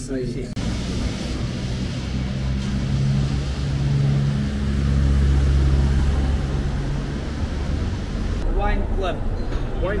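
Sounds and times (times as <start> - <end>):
car driving past: 0.6 - 10.0.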